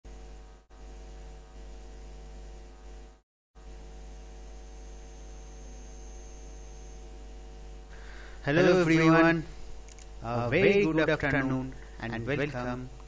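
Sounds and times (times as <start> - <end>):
electrical hum: 0.1 - 13.0.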